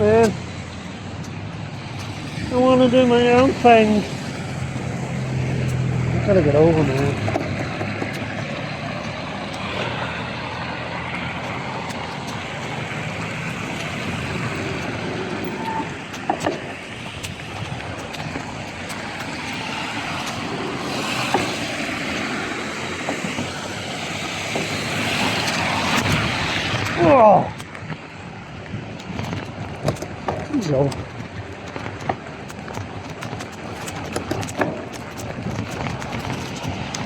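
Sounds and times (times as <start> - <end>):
heavy rain: 0.0 - 37.0
traffic on wet road: 0.0 - 37.0
vehicles passing: 0.0 - 37.0.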